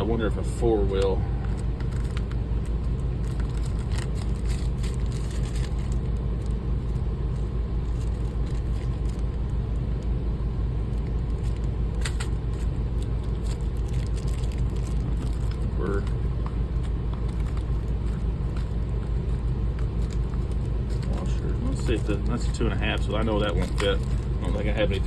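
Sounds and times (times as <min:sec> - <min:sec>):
machinery rumble: 0:00.0 - 0:25.0.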